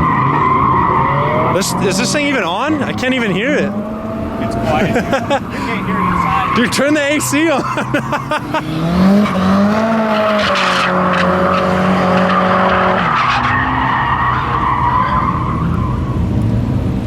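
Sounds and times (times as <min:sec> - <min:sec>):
tyres squealing: 0:00.0 - 0:15.8
car engine at high revs: 0:00.0 - 0:17.0.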